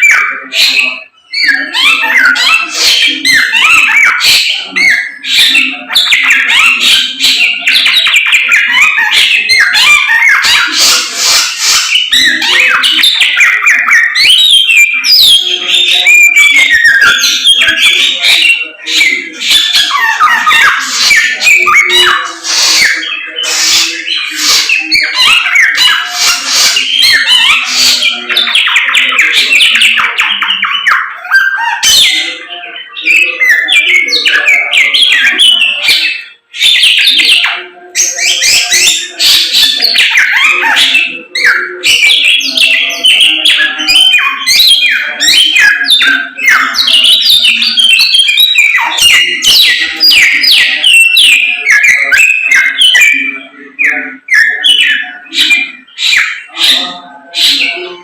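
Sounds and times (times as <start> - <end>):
caged songbird chirping and trilling: 0.0 - 58.0.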